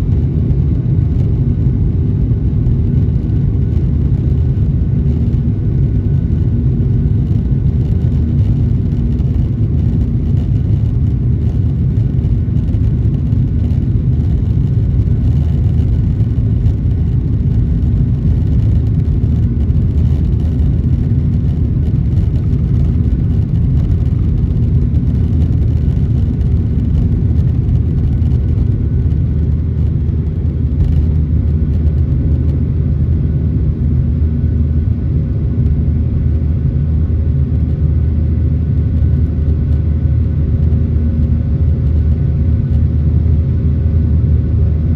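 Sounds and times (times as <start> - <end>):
jet engines rumbling in cabin: 0.0 - 44.9.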